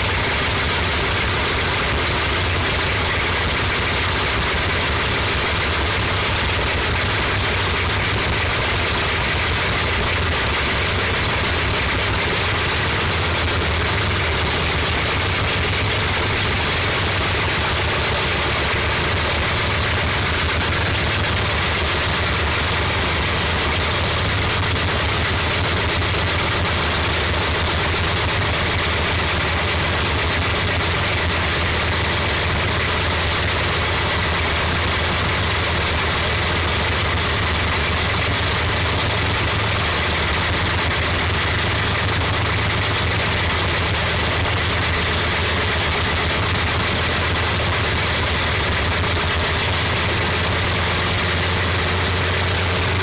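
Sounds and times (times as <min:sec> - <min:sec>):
radial aircraft engine running: 0:00.0 - 0:53.0.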